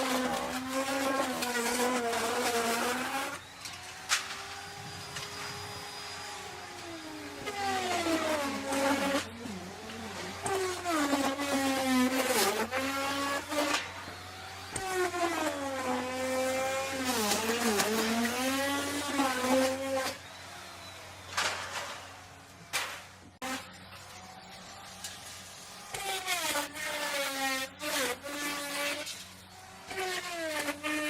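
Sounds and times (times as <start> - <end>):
wood router cutting wood: 0.0 - 31.0.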